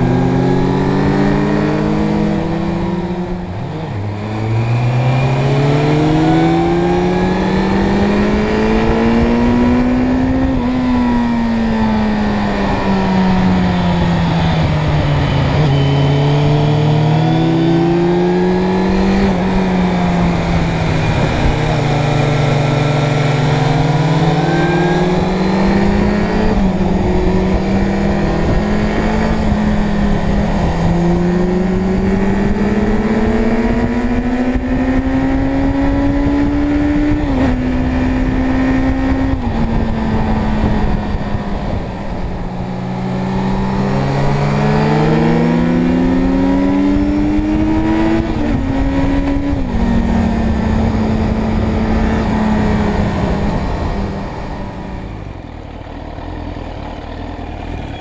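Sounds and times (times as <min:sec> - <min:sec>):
motorcycle engine accelerating: 0:00.0 - 0:58.0
wind and road noise: 0:00.0 - 0:58.0.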